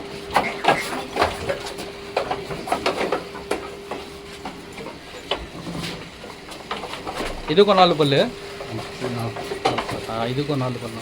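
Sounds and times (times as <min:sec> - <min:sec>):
steady hum: 0:00.0 - 0:11.0
knocks and clatter in pens: 0:00.3 - 0:11.0.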